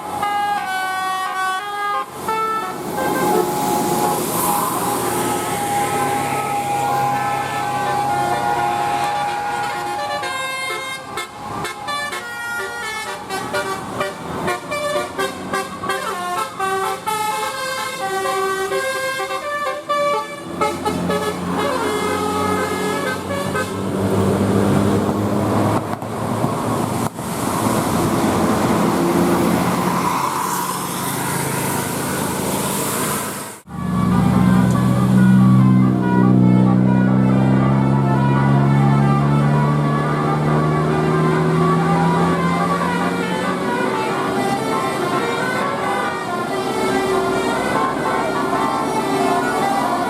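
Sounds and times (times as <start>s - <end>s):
bus air horns playing melody: 0.0s - 24.4s, 33.7s - 50.0s
heavy bus engine running: 0.0s - 50.0s.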